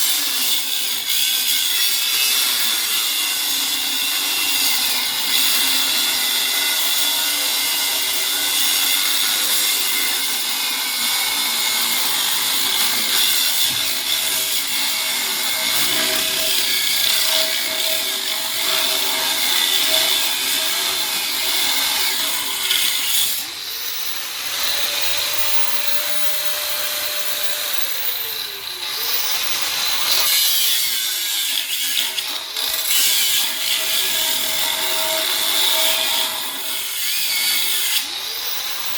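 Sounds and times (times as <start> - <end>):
power saw grinding steel: 0.0 - 38.9.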